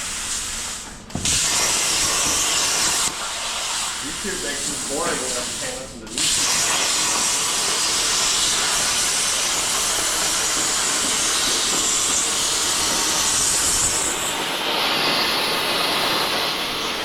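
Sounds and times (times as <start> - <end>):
rushing air hiss: 0.0 - 17.0.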